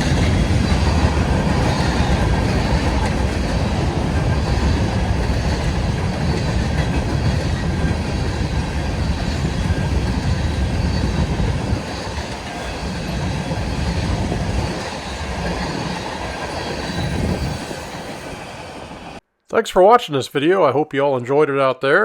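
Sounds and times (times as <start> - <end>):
freight train wheels on rails: 0.0 - 19.2.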